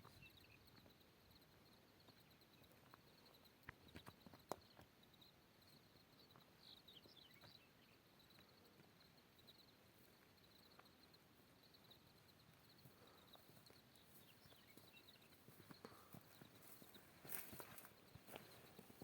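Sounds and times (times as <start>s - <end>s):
soft high chirping: 0.0s - 19.0s.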